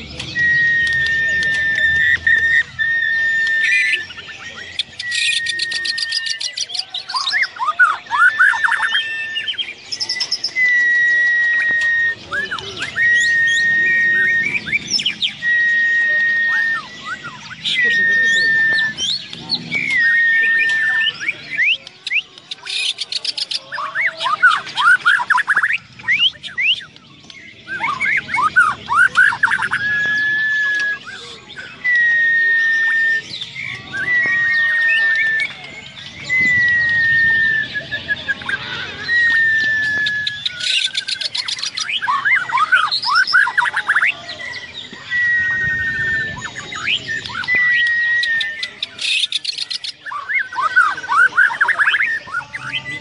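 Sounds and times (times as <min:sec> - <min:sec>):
bird singing whistled notes: 0:00.0 - 0:53.0
faint chirps of other birds: 0:00.0 - 0:53.0.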